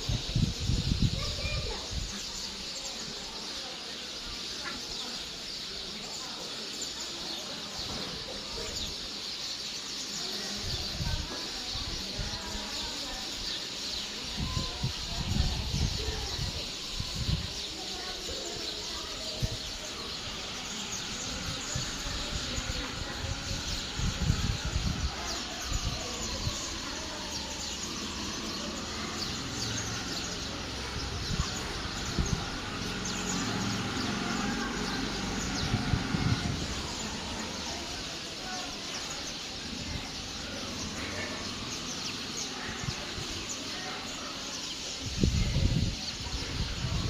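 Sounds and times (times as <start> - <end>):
small birds chirping: 0.0 - 47.0
steady background noise: 0.0 - 47.0.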